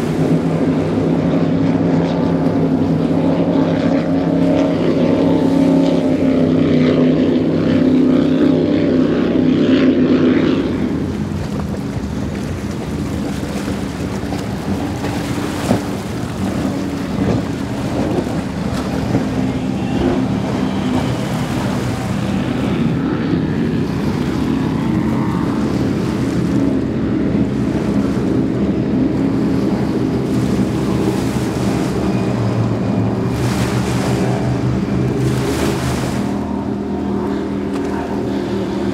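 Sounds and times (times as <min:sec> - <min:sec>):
powerboat engines roaring: 0:00.0 - 0:38.9
rushing water and wind: 0:00.0 - 0:38.9.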